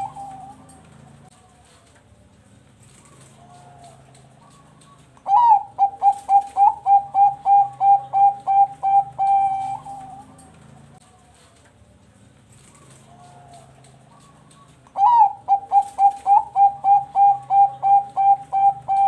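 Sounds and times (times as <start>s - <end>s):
dove cooing: 0.0s - 2.0s, 2.8s - 11.6s, 12.5s - 19.0s.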